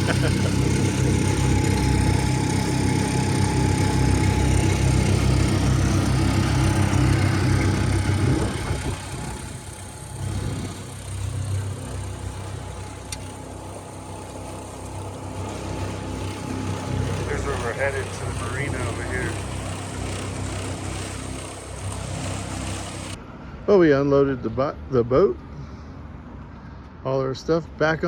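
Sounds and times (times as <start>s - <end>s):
outboard motor running: 0.0s - 23.2s.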